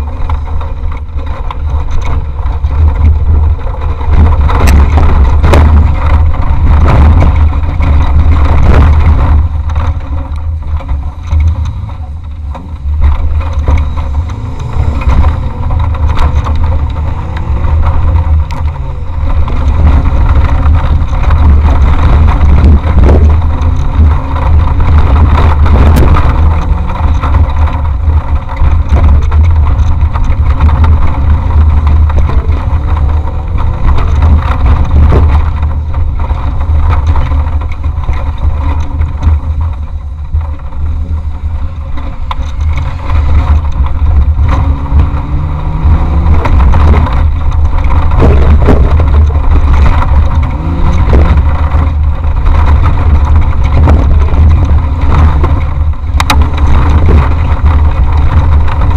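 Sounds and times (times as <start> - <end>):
engine revving: 0.0 - 39.4, 41.6 - 58.9
heavy low rumble: 0.0 - 58.9
vehicle body knocking and rattling: 0.0 - 58.9.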